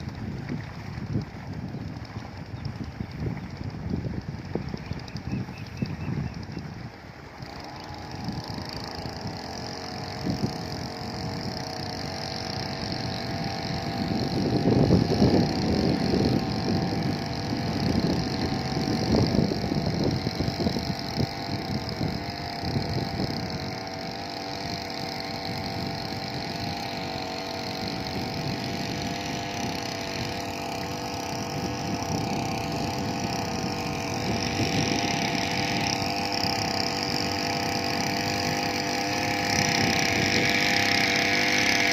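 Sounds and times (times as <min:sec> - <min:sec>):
small petrol engine running: 0:00.0 - 0:41.9.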